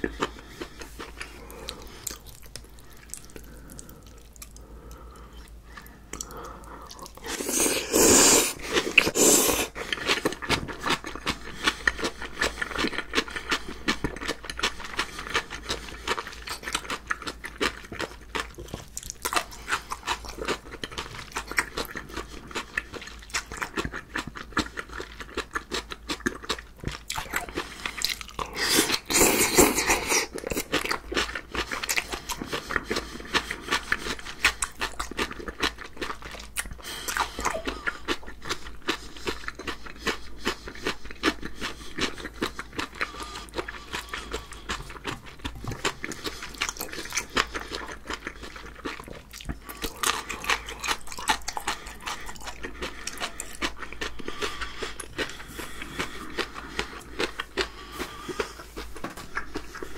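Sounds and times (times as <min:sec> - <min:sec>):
wet crunchy chewing: 0:00.0 - 0:59.9.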